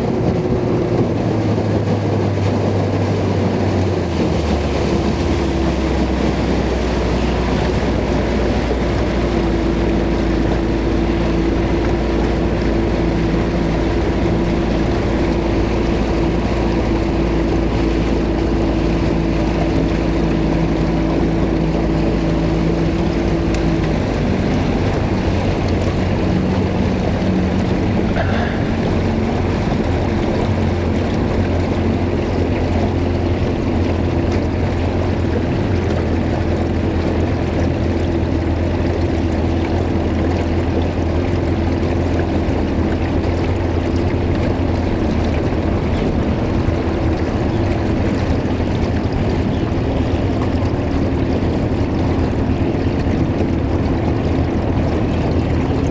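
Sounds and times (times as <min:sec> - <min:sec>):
outboard motor running: 0:00.0 - 0:55.9
water noise: 0:00.0 - 0:55.9
wind: 0:00.0 - 0:55.9.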